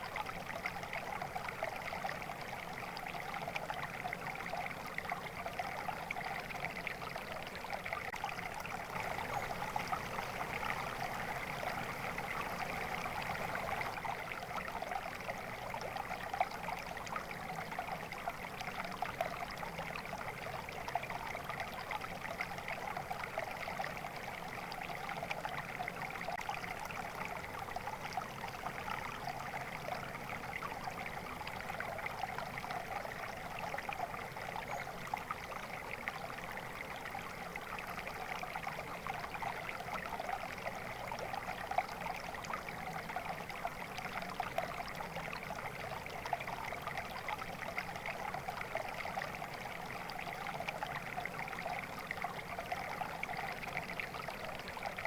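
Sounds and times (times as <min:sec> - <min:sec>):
water flowing over rocks: 0:00.0 - 0:55.0.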